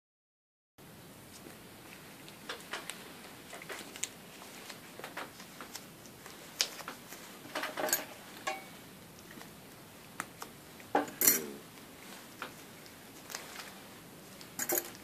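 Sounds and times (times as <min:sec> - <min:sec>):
soft clicks and rustles: 0:01.3 - 0:15.0.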